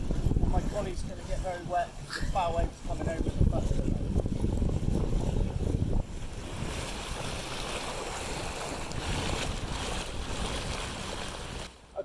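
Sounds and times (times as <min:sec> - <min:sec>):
wind rumbling on microphone: 0:00.0 - 0:11.8
bow wave splashing: 0:00.0 - 0:12.0
water rushing past dinghy: 0:00.0 - 0:12.0.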